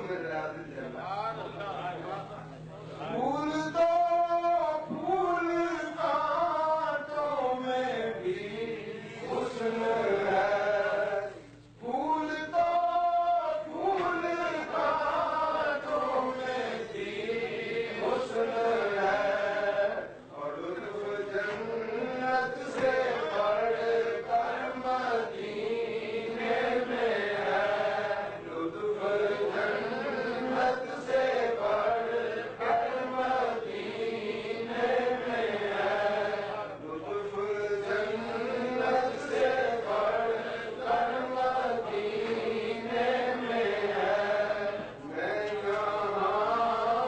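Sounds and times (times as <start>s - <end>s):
men chanting: 2.0s - 47.0s.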